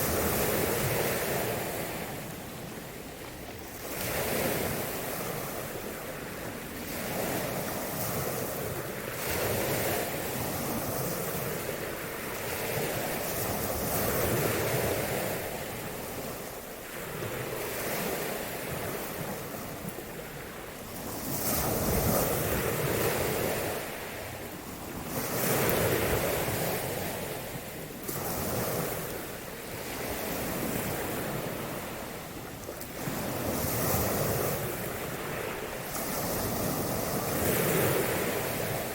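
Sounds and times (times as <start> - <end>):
waves washing in: 0.0 - 38.9
wind buffeting microphone: 3.6 - 38.9.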